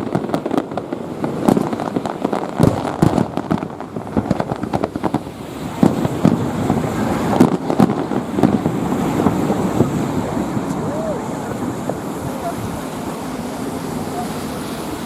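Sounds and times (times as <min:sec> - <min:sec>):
fireworks bangs: 0:00.0 - 0:14.3
fireworks crackling: 0:00.0 - 0:15.0.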